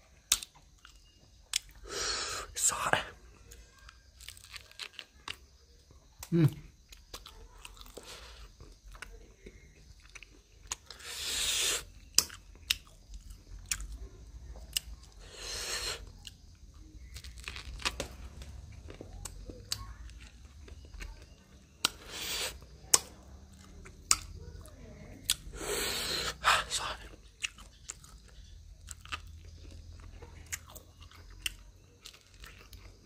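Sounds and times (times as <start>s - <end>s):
moist chewing with crunching: 0.1s - 1.8s, 3.4s - 33.0s.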